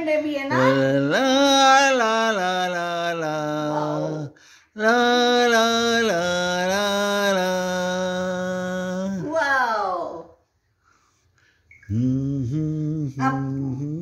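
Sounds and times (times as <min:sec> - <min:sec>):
person singing wordless melody: 0:00.5 - 0:09.5, 0:11.7 - 0:14.0.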